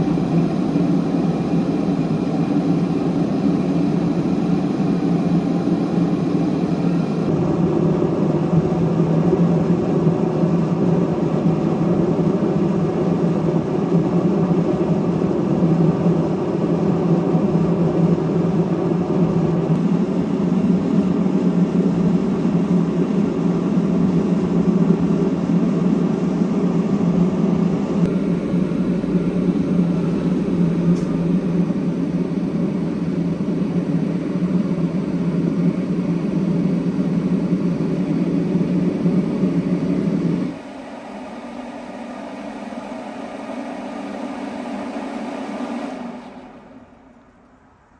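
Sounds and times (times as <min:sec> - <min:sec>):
heater fan and burner whirring: 0:00.0 - 0:47.9.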